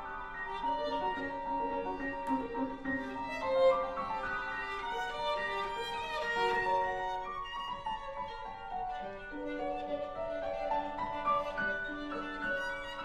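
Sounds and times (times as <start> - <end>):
violin playing slow melody: 0.0 - 13.0.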